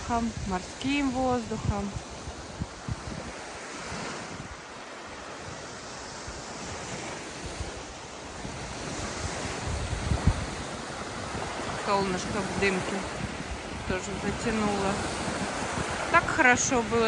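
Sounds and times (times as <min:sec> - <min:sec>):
waves washing onto sand: 0:00.0 - 0:17.0
wind buffeting microphone: 0:00.0 - 0:17.0.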